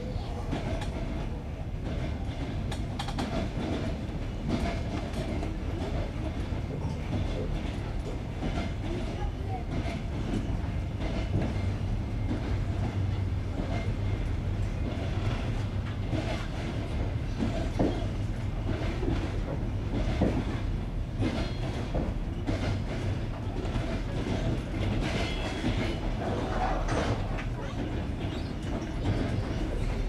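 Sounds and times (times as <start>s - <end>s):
low rumble of train carriage: 0.0s - 30.0s.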